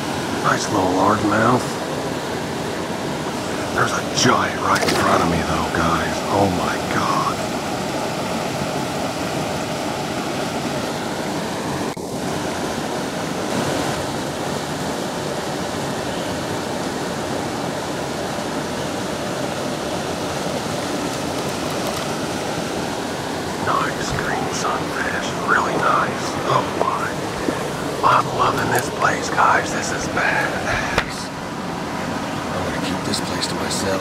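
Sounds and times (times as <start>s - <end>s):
water rushing from spillway: 0.0s - 34.0s.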